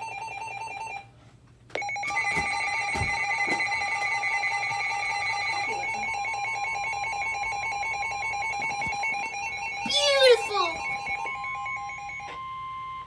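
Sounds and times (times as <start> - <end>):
steady alarm tones: 1.8 - 13.0.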